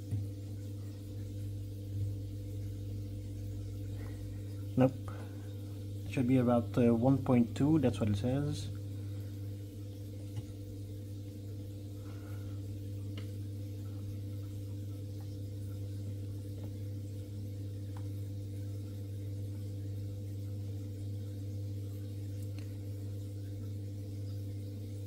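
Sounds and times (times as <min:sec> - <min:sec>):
low electric hum: 0:00.0 - 0:25.0.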